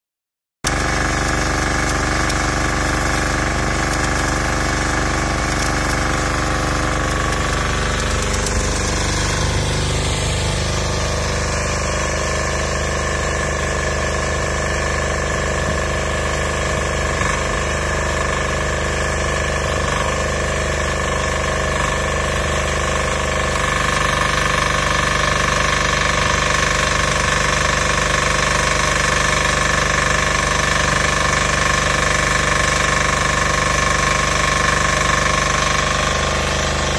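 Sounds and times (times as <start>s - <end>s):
generator engine running: 0.6s - 36.9s
welding arc crackling: 0.6s - 36.9s.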